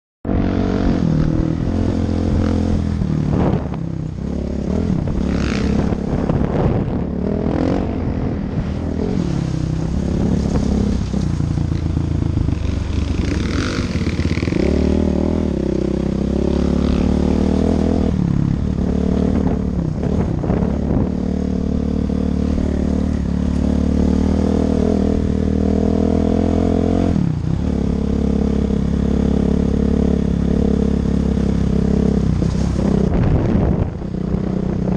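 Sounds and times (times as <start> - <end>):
off-road vehicle engine: 0.2 - 34.9.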